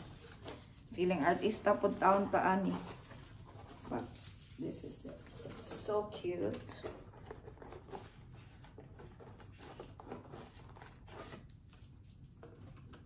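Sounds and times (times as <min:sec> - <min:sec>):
paper and cardboard rustling: 0:00.0 - 0:13.0.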